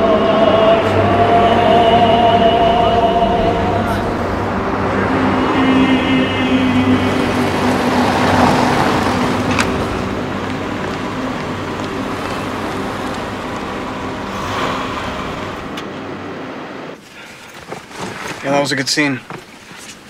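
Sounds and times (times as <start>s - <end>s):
car engine and tyres: 0.0s - 20.0s
general traffic: 0.0s - 20.0s.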